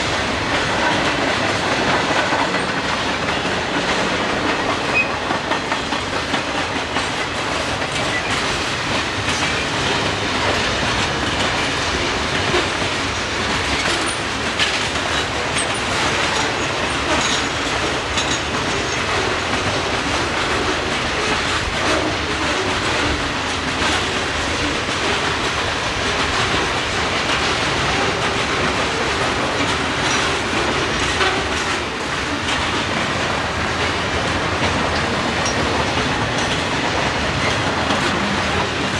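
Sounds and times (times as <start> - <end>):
freight train cars rumbling: 0.0 - 38.9
wheels clacking over rail joints: 0.0 - 38.9.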